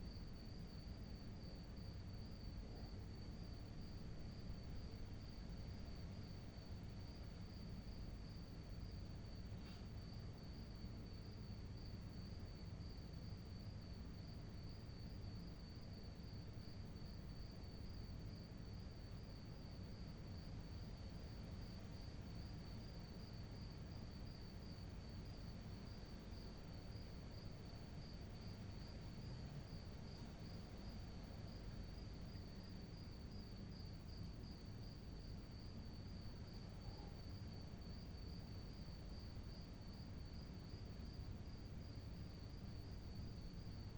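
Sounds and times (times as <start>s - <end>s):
cricket chirping: 0.0s - 43.9s.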